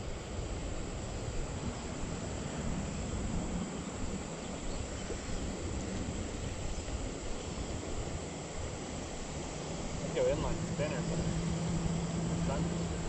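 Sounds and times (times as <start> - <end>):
creek water rushing: 0.0 - 13.0
wind on microphone: 0.0 - 13.0.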